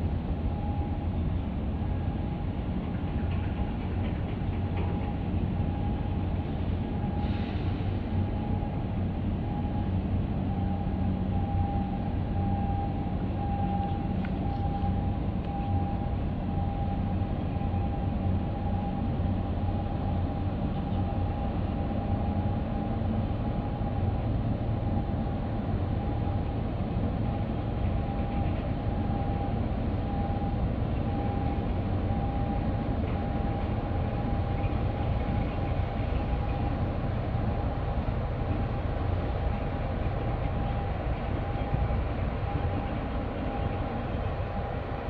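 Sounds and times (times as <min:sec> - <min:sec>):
constant machinery whine: 0:00.0 - 0:45.0
ship engines rumbling: 0:00.0 - 0:45.0.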